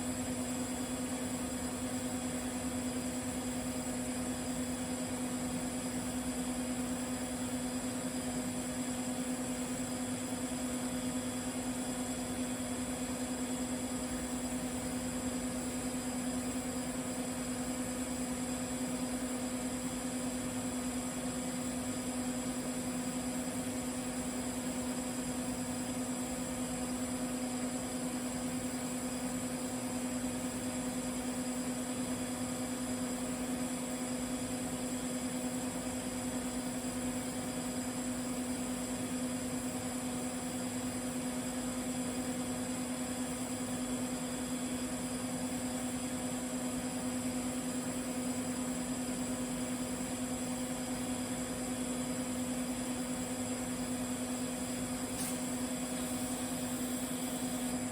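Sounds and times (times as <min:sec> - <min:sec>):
welding arc humming and hissing: 0:00.0 - 0:57.9.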